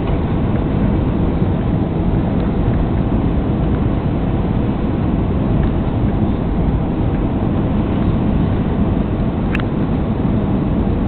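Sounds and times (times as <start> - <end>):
airplane cabin engine rush: 0.0 - 11.0.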